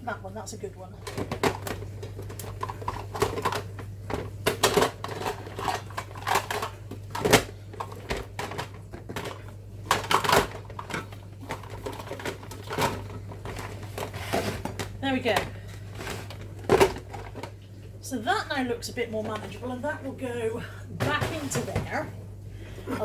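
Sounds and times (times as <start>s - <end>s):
low steady hum: 0.0s - 23.0s
plastic containers clattering: 1.0s - 17.7s, 19.0s - 19.8s, 21.0s - 22.1s.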